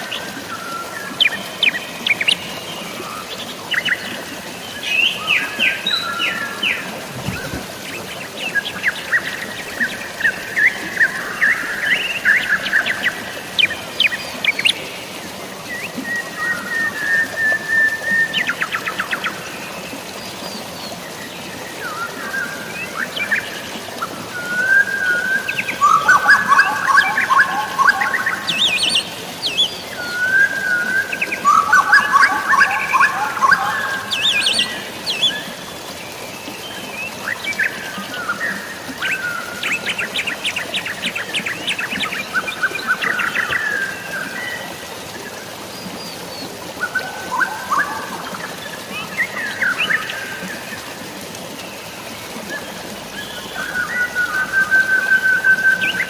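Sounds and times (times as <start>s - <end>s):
drizzling rain: 0.0s - 56.0s
flowing water: 0.0s - 56.0s.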